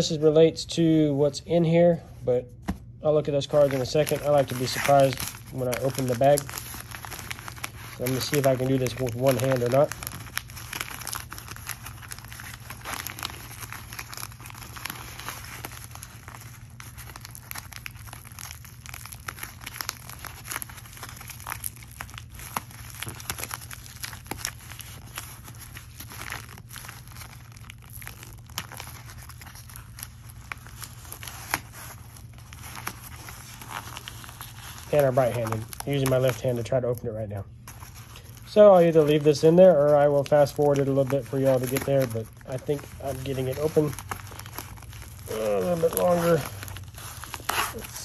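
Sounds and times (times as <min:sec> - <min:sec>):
paper envelope crinkling and tearing: 0:02.6 - 0:48.0.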